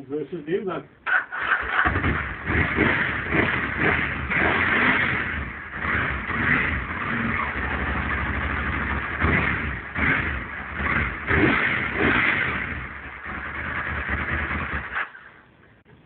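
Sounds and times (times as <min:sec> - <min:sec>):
motorcycle engine idling and revving: 0:01.1 - 0:15.5.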